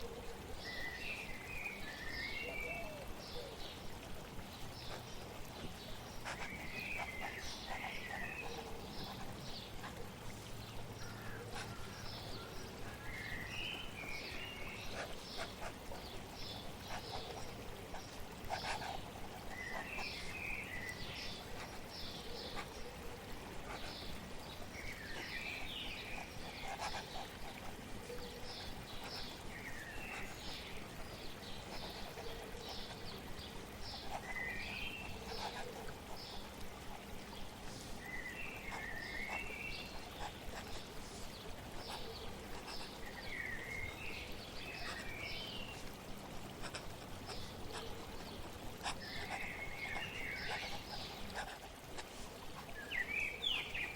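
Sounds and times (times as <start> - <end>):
flowing water: 0.0 - 53.9
small birds chirping: 0.6 - 53.9.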